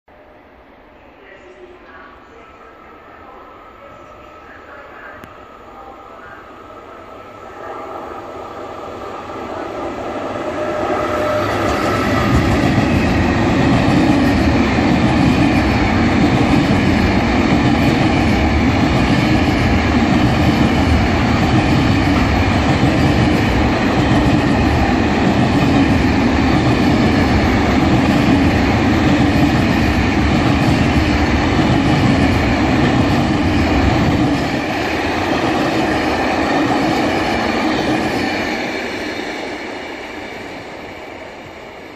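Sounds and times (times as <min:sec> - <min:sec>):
electric locomotive passing: 0:00.1 - 0:41.9
train wheels rumbling on rails: 0:07.8 - 0:41.9.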